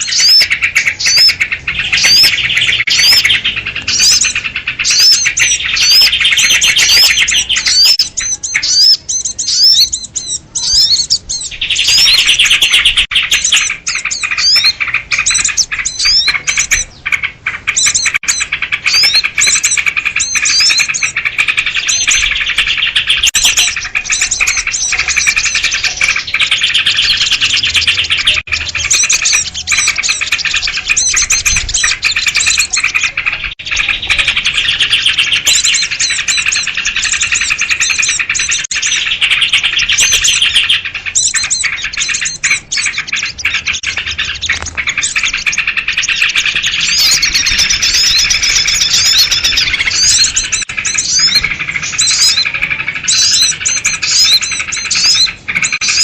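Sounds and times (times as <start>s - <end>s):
flock of birds chattering: 0.0s - 56.0s.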